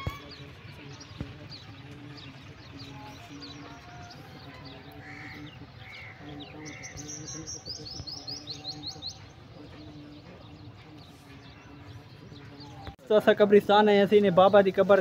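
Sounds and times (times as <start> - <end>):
lower bird calls: 0.0 - 13.0
small birds chirping: 0.0 - 15.0.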